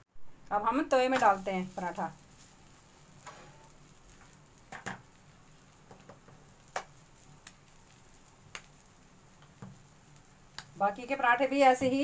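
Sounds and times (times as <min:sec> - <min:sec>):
low steady hiss: 0:00.1 - 0:12.0.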